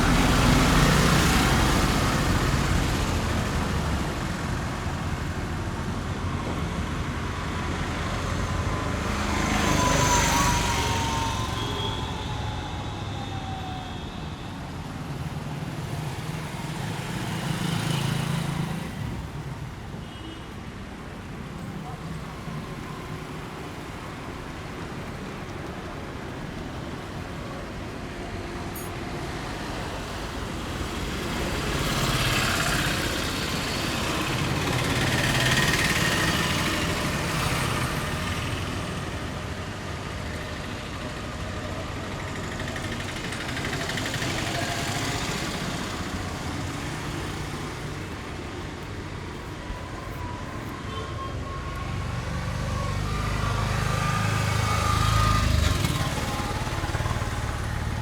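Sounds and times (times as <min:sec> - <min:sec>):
road traffic: 0:00.0 - 0:58.0.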